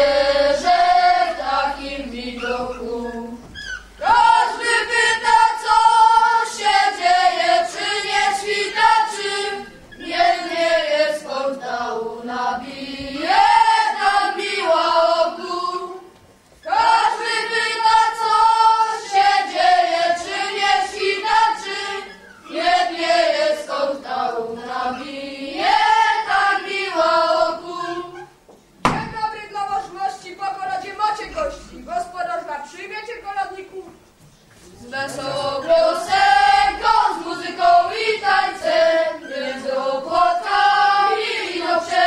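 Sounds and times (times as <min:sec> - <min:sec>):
children singing a carol: 0:00.0 - 0:28.3, 0:34.8 - 0:42.0.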